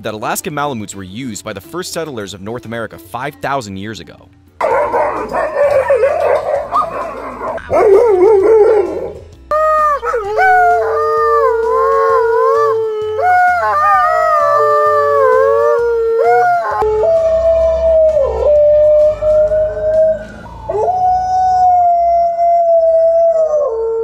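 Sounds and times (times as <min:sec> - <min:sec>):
dogs howling: 0:04.6 - 0:24.0.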